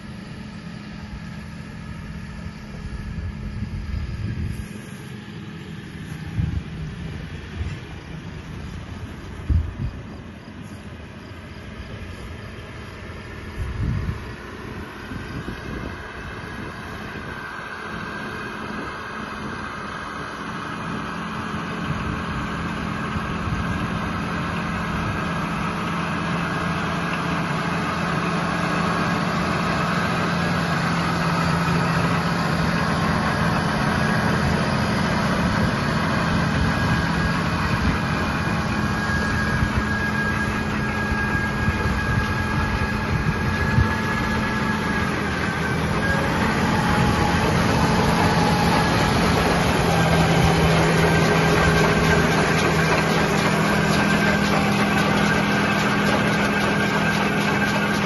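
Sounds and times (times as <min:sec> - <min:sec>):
round baler machinery: 0:00.0 - 0:58.0
tractor diesel engine running: 0:00.0 - 0:58.0.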